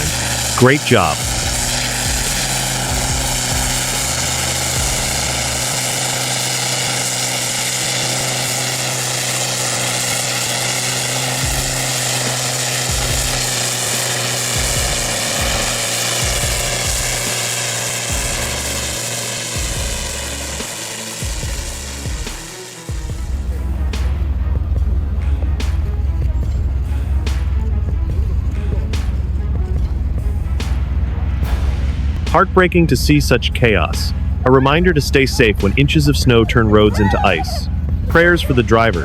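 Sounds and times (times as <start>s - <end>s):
heavy engine droning: 0.0s - 39.0s.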